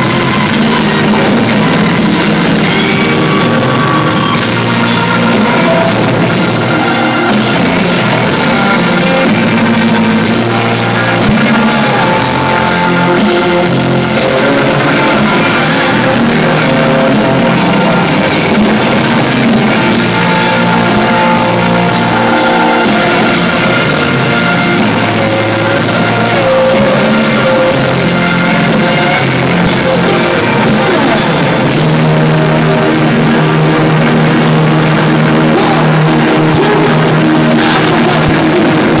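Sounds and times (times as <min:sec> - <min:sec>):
live rock music: 0:00.0 - 0:39.0.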